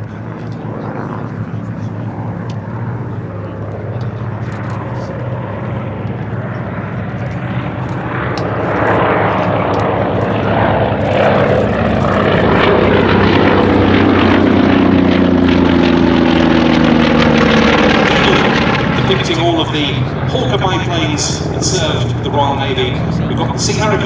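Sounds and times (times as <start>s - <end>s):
propeller aircraft flying past: 0.0s - 24.0s.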